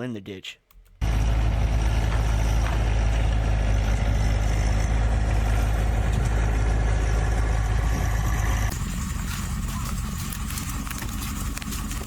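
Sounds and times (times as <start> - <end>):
vehicle engine rumbling: 0.7 - 12.0.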